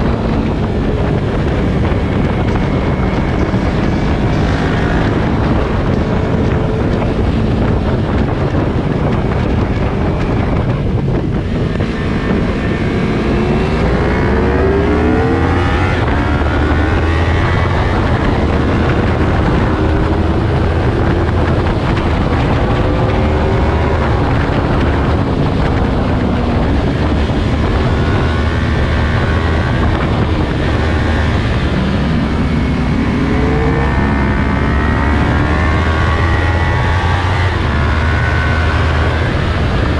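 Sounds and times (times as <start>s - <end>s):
motorcycle engine shifting gears: 0.0s - 39.9s
wind rush on microphone: 0.0s - 39.9s.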